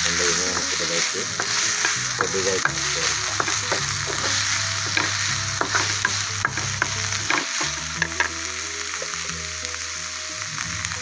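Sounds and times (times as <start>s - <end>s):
wooden spatula scraping a pan: 0.0s - 9.2s
vegetables sizzling in oil: 0.0s - 11.0s.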